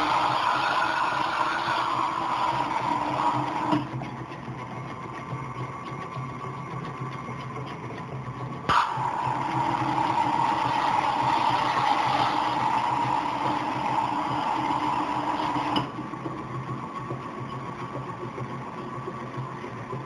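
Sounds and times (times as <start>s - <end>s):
stand mixer humming: 0.0s - 20.0s.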